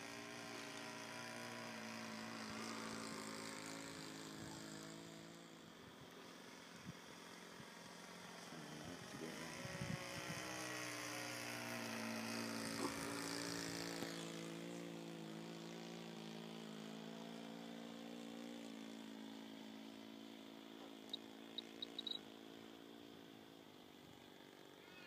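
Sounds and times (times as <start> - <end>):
model airplane engine droning: 0.0 - 25.0.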